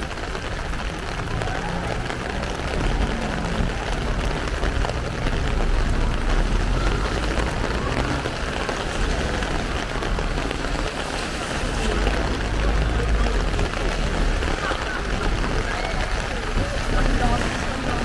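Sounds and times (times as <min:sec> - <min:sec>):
heavy rain on street: 0:00.0 - 0:18.0
low rumble of city traffic: 0:00.0 - 0:18.0.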